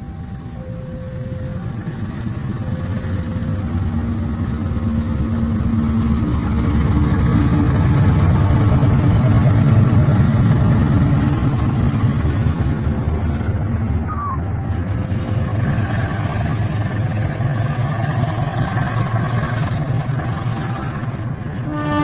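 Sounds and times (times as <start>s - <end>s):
diesel locomotive engine passing: 0.0s - 22.0s.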